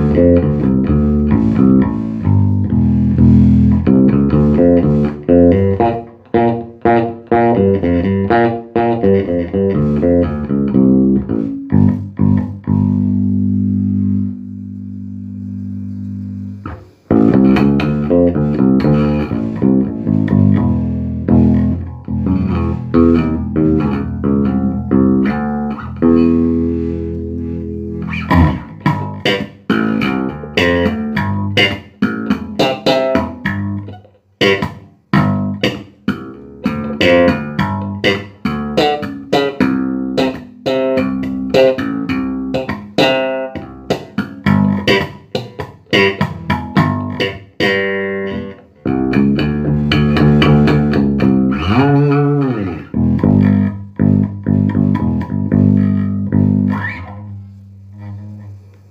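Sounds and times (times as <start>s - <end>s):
electric bass guitar notes: 0.0s - 58.9s.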